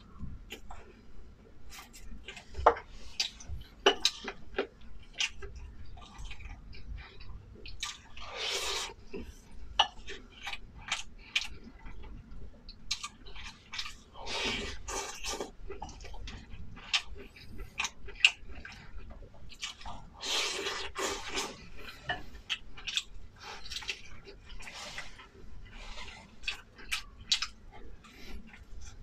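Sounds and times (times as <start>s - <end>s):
chewing and mouth smacking: 1.7s - 8.3s, 8.9s - 29.0s.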